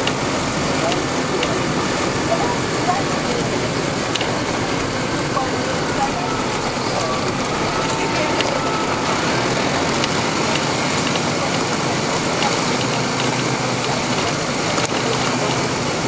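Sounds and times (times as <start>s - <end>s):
bus body clicks and rattles: 0.0s - 16.0s
bus diesel engine droning: 0.0s - 16.0s.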